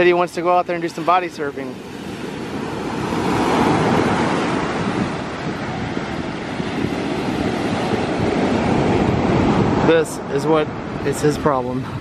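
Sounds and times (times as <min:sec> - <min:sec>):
waves breaking on a beach: 0:00.0 - 0:12.0
wind rumbling on microphone: 0:00.0 - 0:12.0.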